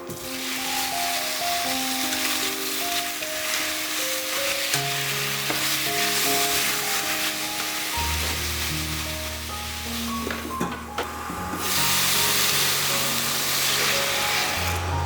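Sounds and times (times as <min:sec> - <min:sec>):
background music with held notes: 0:00.0 - 0:15.0
food sizzling in a pan: 0:00.0 - 0:15.0.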